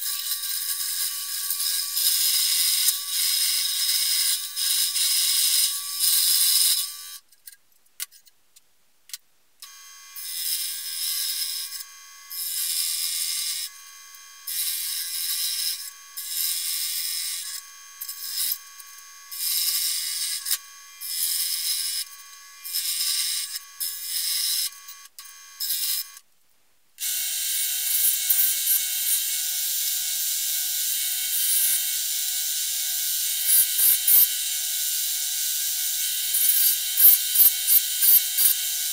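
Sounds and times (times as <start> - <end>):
scroll saw cutting metal: 0.0 - 8.3, 10.2 - 26.2, 27.0 - 38.9.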